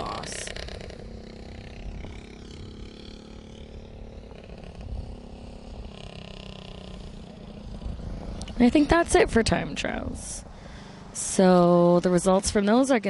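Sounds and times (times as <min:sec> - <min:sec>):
low rumble: 0:00.0 - 0:12.4
go-kart engine: 0:00.0 - 0:13.0.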